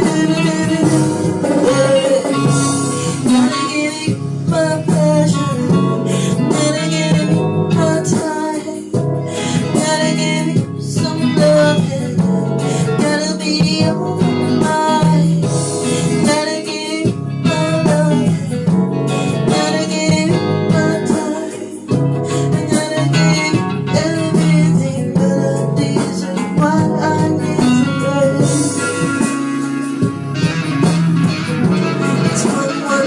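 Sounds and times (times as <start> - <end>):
guitar music: 0.0 - 33.0.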